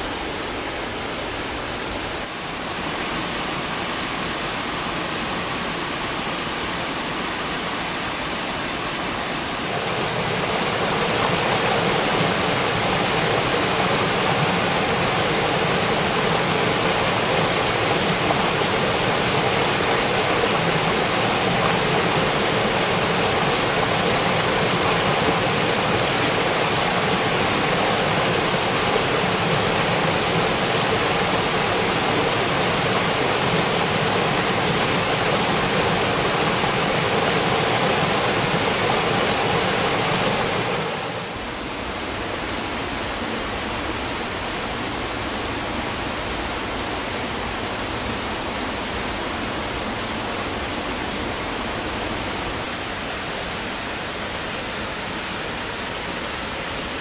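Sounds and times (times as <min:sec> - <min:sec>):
stream pouring over rocks: 0:00.0 - 0:57.0.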